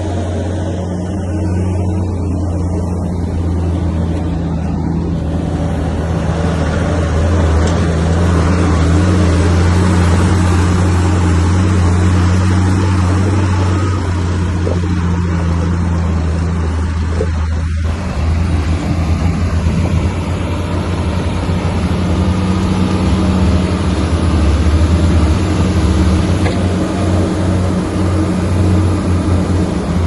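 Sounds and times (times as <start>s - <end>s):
bulldozer diesel engine droning: 0.0s - 30.0s.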